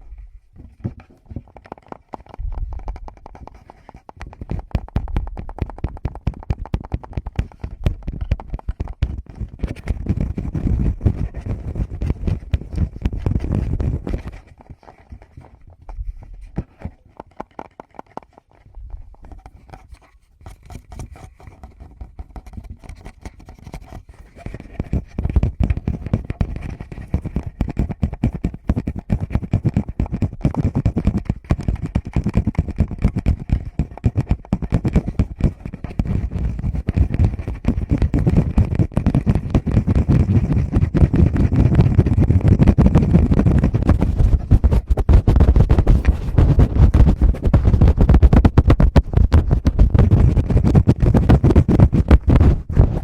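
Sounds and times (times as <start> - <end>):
scratchy rubbing on microphone: 0.0 - 53.0
fingers tapping microphone: 0.6 - 53.0.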